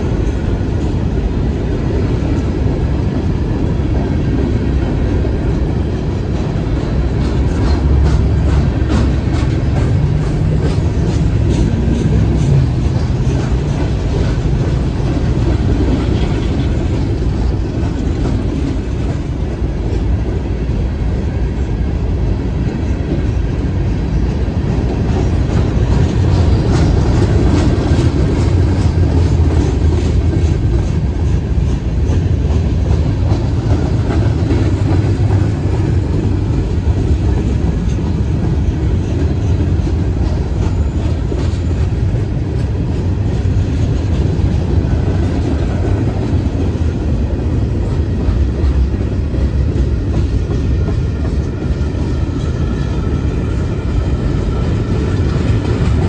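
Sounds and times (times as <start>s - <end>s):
train rumbling past: 0.0s - 56.0s
wheels clicking over rail joints: 4.0s - 20.4s, 23.0s - 56.0s.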